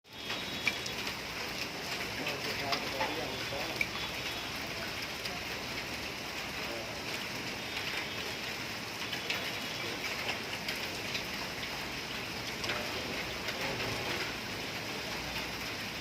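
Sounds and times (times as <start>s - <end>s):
hailstones ticking on hard surfaces: 0.1s - 16.0s
rain and hail falling: 0.1s - 16.0s.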